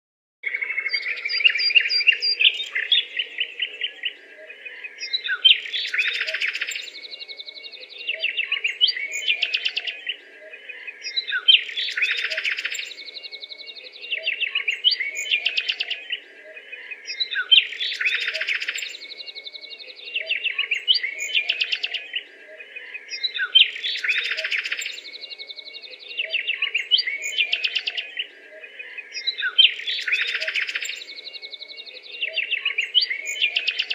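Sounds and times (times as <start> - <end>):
birds chirping and trilling: 0.4 - 33.9.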